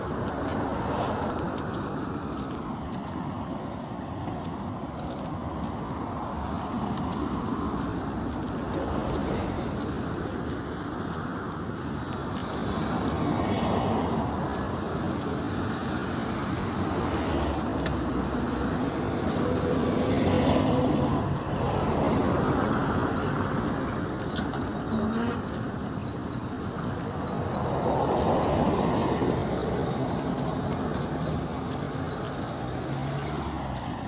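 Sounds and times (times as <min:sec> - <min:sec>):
vehicle engines and tyres rumbling: 0:00.0 - 0:34.0
vehicles passing close by: 0:00.0 - 0:34.0.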